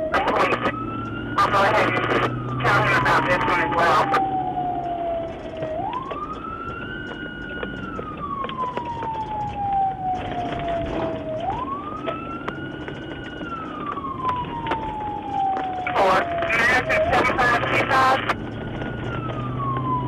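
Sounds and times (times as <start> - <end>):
emergency siren wailing: 0.0 - 20.0.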